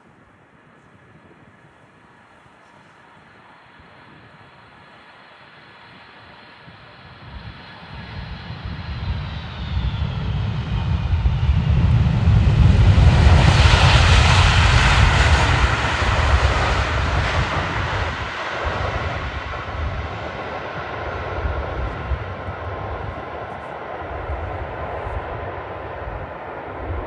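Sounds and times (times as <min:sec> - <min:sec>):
jet airliner engines roaring: 0:03.5 - 0:27.0.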